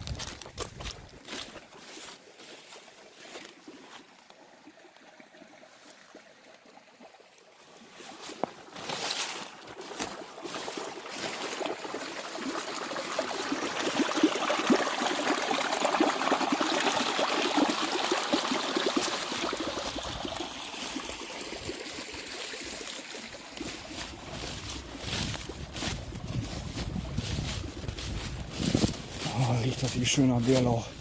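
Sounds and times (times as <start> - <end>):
stream trickling and splashing: 0.0 - 31.0.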